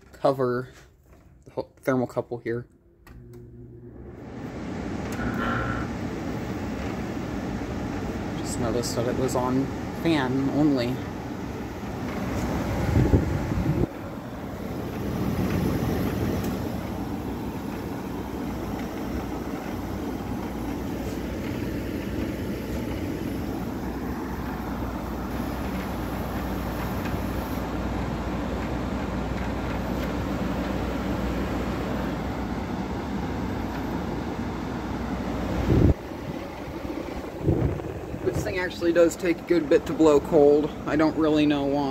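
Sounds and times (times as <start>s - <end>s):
air conditioner humming: 0.0s - 41.9s.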